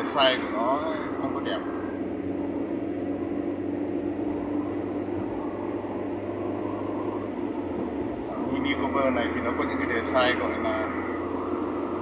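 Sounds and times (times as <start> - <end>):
car cabin road and engine drone: 0.0 - 12.0.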